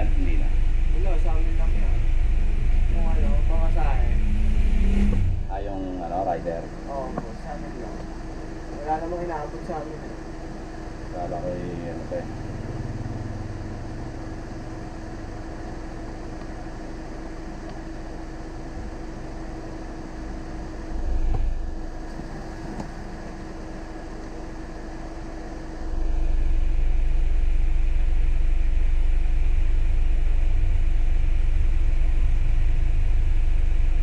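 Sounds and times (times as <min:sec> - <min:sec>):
low motor-like rumble: 0:00.0 - 0:34.0.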